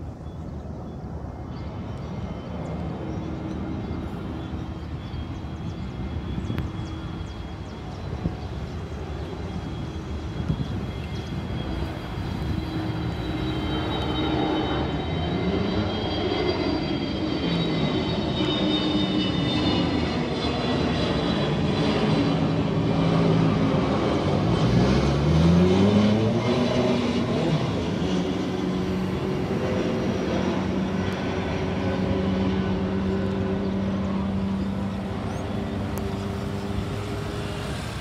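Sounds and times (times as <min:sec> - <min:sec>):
high engine whine: 0:00.0 - 0:38.0
jet engines passing low: 0:00.0 - 0:38.0.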